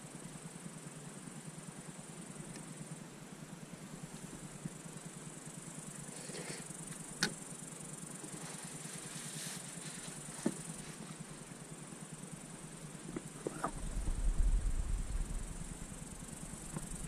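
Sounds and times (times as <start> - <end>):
high-pitched background hiss: 0.0 - 17.0.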